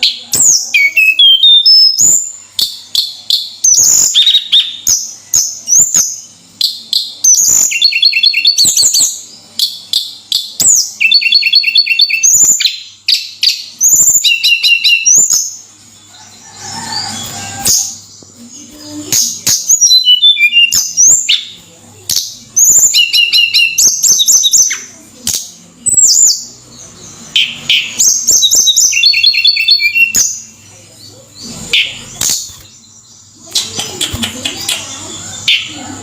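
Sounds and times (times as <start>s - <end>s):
songbird high chirping: 0.0s - 36.0s.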